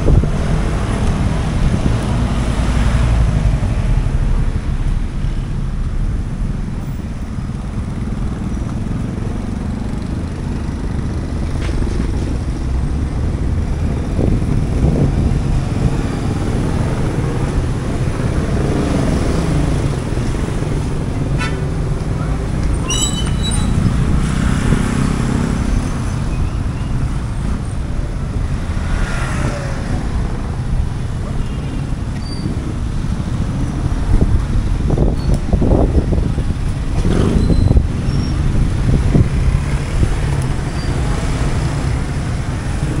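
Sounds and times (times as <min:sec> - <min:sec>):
motorcycles and cars passing: 0:00.0 - 0:43.0.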